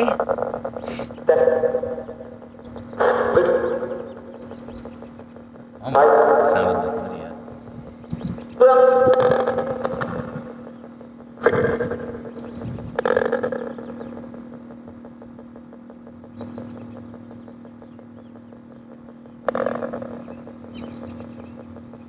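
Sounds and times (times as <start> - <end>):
bursts of radio static: 0.0 - 22.0
steady radio hum: 0.0 - 22.0.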